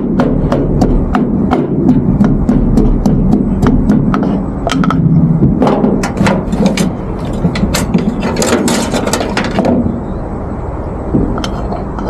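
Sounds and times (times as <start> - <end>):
pestle knocking in metal mortar: 0.0 - 9.9.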